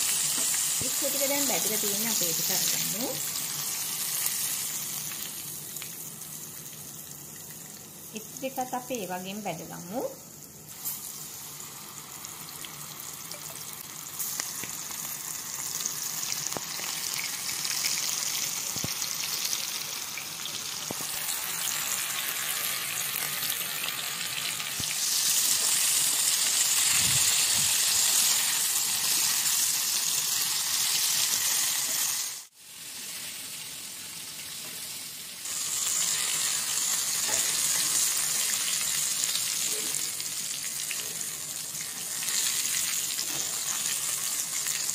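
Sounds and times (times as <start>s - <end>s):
food deep-frying in hot oil: 0.0s - 44.9s.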